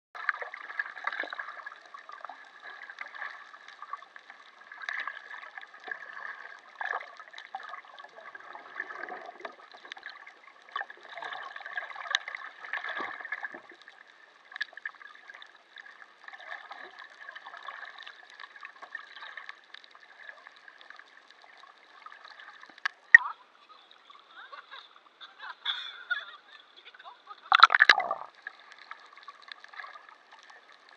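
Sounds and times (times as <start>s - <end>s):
water bubbling and gurgling: 0.2s - 23.6s, 27.5s - 30.9s
small clicks and crackles: 0.2s - 24.9s, 27.5s - 30.9s.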